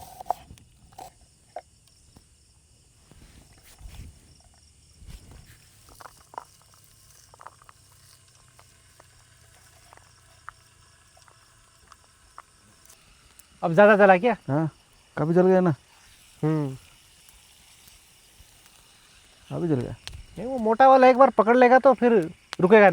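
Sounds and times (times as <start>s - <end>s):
campfire crackling: 0.0s - 22.9s
night insects chirping: 0.0s - 22.9s.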